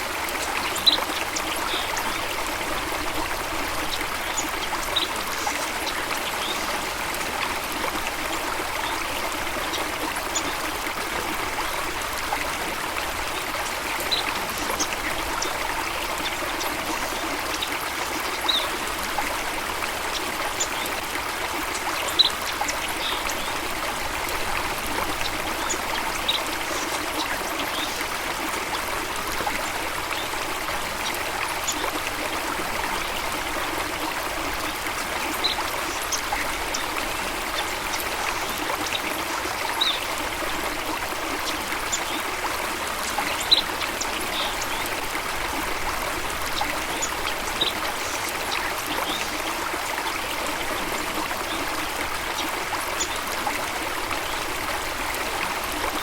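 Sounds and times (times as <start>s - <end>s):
water flowing and trickling: 0.0s - 56.0s.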